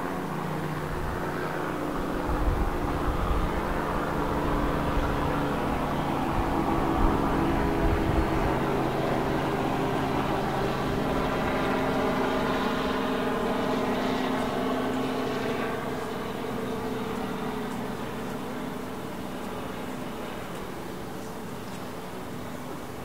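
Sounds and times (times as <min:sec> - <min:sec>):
steady engine drone: 0:00.0 - 0:23.0.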